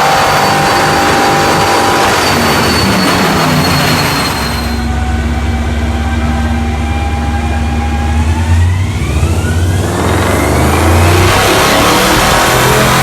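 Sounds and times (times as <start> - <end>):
car engine accelerating: 0.0 - 13.0
rising whine: 0.0 - 13.0.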